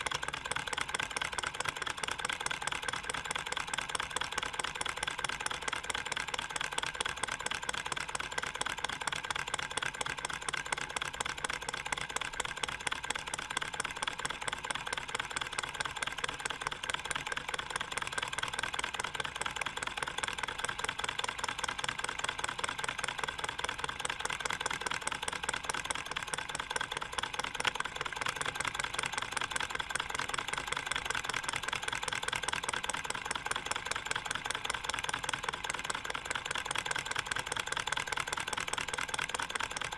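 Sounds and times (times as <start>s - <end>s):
model engine metallic ticking: 0.0s - 39.9s.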